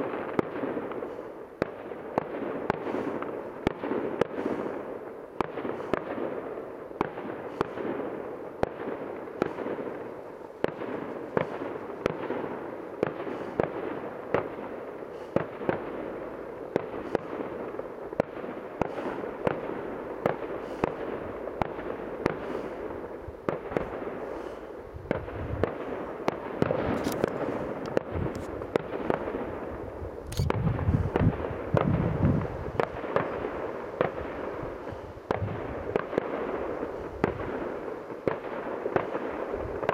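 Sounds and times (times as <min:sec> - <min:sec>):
firework shells bursting with bangs: 0:00.0 - 0:39.9
fireworks crackling: 0:00.0 - 0:39.9
deep firework booms: 0:05.4 - 0:39.9.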